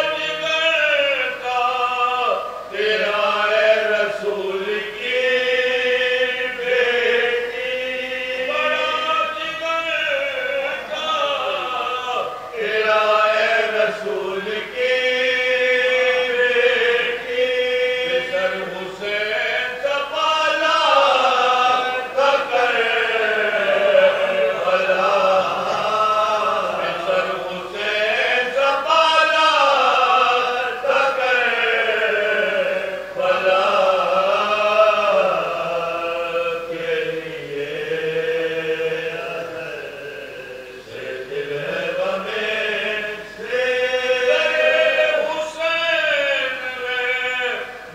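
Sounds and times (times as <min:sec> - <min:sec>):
men chanting unaccompanied: 0:00.0 - 0:47.9.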